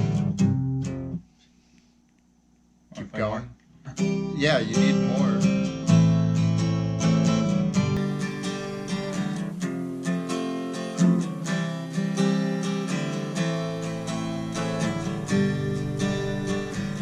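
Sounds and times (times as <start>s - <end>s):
acoustic guitar strumming chords: 0.0s - 1.2s, 3.9s - 17.0s.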